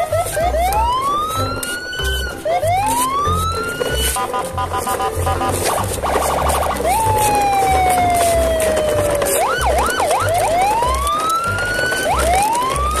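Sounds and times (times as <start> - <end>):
cartoon whistle sliding: 0.0 - 10.9.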